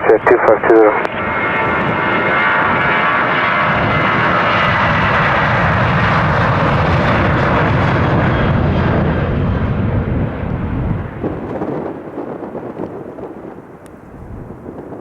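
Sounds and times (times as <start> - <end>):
airliner engines roaring: 0.0 - 15.0.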